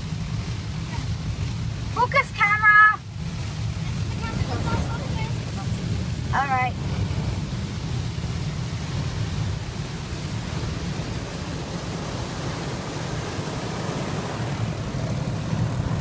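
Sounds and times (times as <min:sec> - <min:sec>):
car wash water spray and brushes: 0:00.0 - 0:16.0
low rumble: 0:03.0 - 0:16.0.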